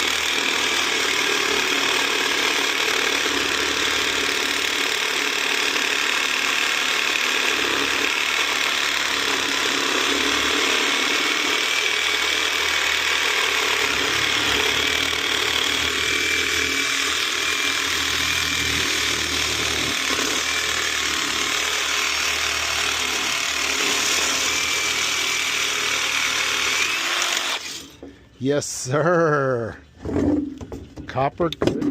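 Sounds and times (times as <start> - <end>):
power saw cutting metal: 0.0 - 28.1.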